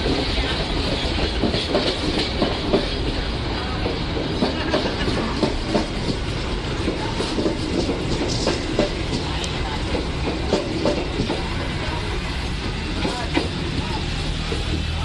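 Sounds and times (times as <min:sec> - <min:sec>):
train rumble: 0:00.0 - 0:15.0
train wheels clacking over rail joints: 0:00.0 - 0:15.0.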